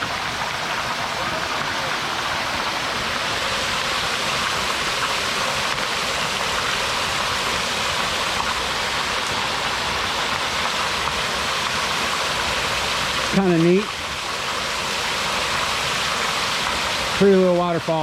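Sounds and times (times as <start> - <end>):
small waterfall rushing over rock: 0.0 - 18.0.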